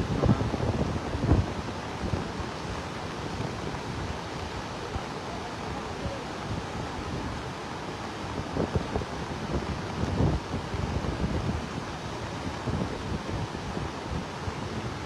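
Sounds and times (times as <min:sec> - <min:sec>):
flooding river rushing: 0:00.0 - 0:15.0
wind buffeting microphone: 0:00.0 - 0:15.0.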